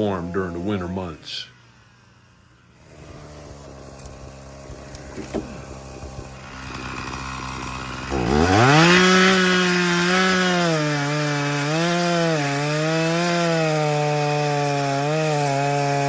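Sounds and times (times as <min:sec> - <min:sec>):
chainsaw cutting through wood: 0:00.0 - 0:16.0.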